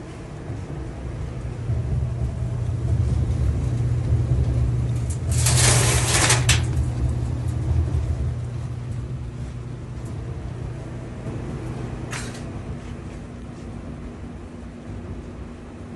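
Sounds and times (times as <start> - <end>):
electric dryer rumbling: 0.0 - 15.9.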